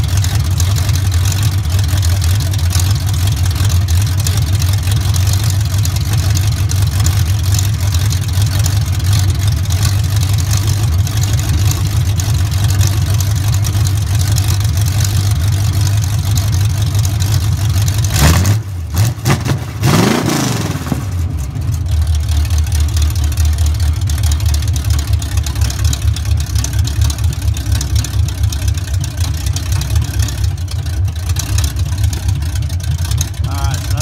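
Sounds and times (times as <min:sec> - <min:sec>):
vee eight engine revving and idling: 0:00.0 - 0:34.0.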